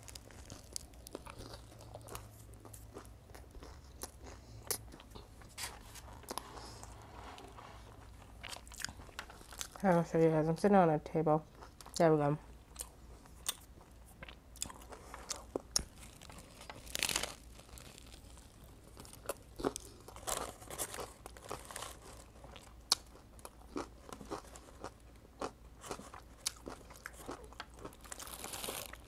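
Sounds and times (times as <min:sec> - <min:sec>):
person chewing crusty sandwich: 0:00.0 - 0:09.8, 0:11.5 - 0:29.0.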